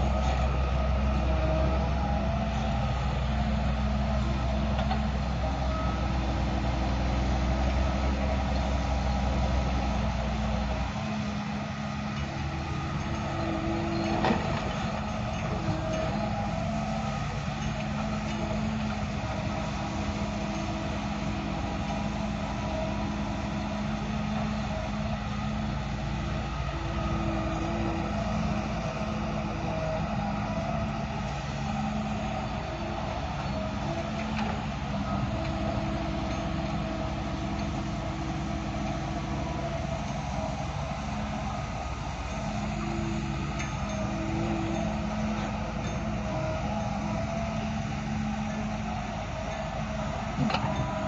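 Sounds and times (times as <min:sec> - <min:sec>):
heavy machinery engine humming: 0:00.0 - 0:51.0.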